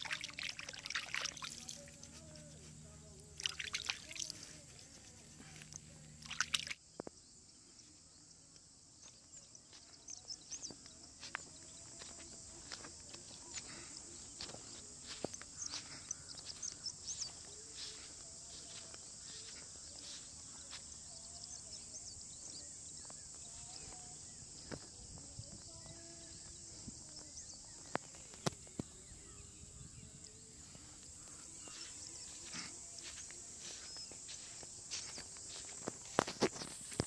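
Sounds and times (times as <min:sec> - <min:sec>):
steady high-pitched hiss: 0:00.0 - 0:37.0.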